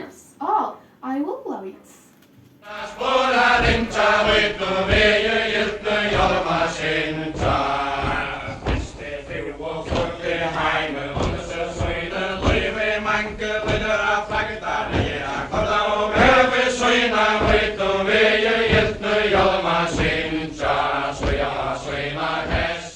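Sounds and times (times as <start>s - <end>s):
group chanting in unison: 2.6s - 22.9s
dancers' stepping beat: 3.0s - 22.9s.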